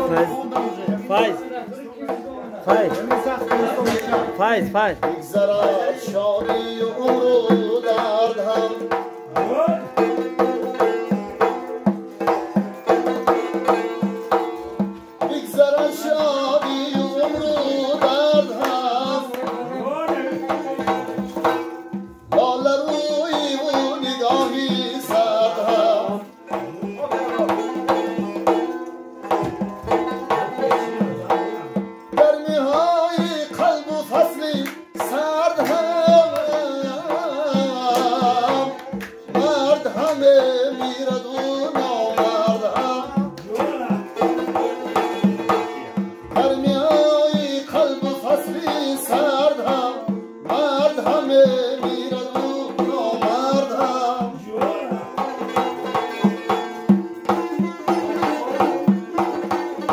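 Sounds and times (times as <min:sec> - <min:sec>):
frame drum struck by hand: 0:00.0 - 0:59.9
man singing: 0:00.0 - 0:59.9
plucked lute: 0:00.0 - 0:59.9.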